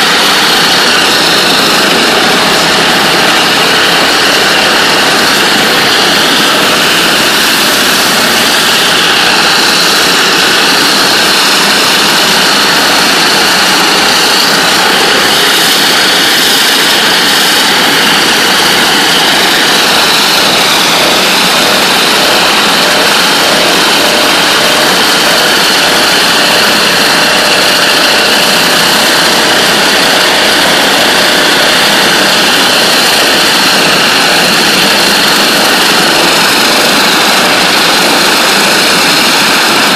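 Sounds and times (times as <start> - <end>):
high-pressure water jet roaring: 0.0 - 39.9.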